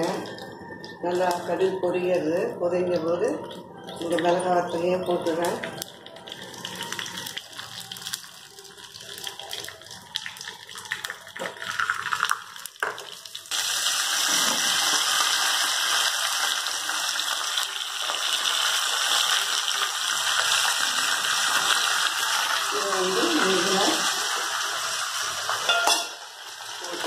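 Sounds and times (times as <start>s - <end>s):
loud sizzle of leaves in oil: 5.2s - 27.0s.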